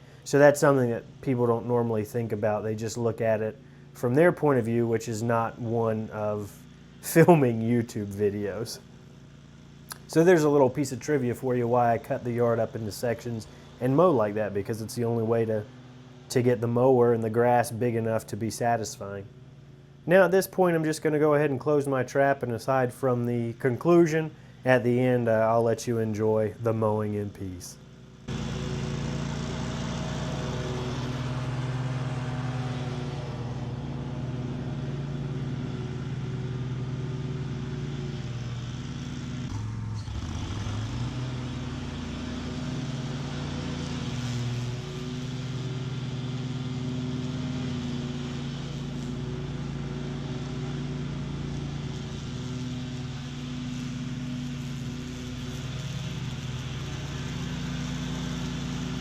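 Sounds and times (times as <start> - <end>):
mower engine at full throttle: 0.0 - 21.9, 23.9 - 59.0
mower blades cutting weeds: 0.0 - 59.0.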